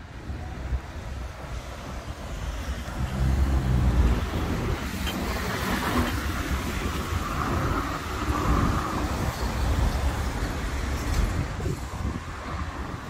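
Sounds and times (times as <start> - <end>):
low traffic rumble: 0.0 - 13.0
tyres hissing on wet road: 0.2 - 13.0.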